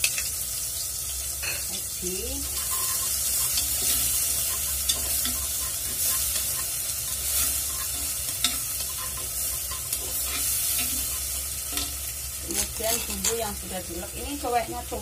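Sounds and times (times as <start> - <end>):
shrimp sizzling in a clay pot: 0.0 - 15.0.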